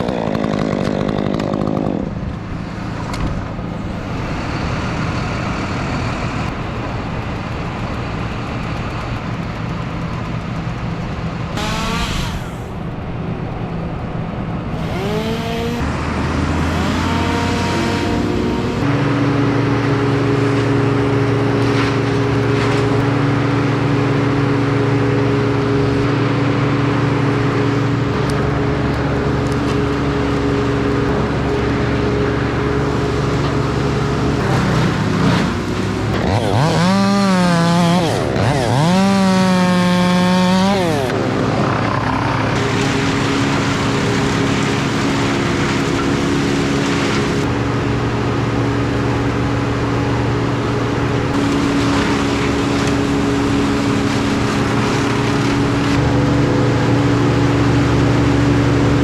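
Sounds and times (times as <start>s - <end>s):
chainsaw revving: 0.0s - 3.2s, 11.5s - 13.0s, 14.7s - 58.9s
heavy equipment engine drone: 0.0s - 59.0s.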